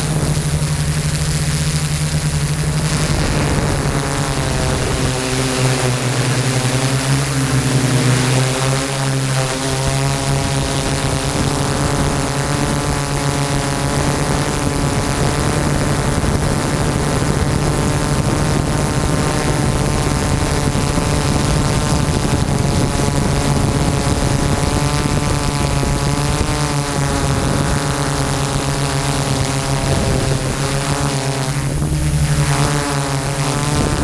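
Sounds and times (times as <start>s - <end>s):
drone motors buzzing: 0.0s - 34.0s.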